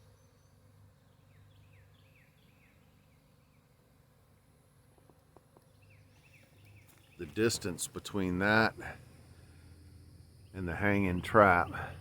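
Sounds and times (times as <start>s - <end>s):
distant bird chirping: 0.0s - 4.0s, 4.9s - 12.0s
faint background hum: 0.0s - 12.0s.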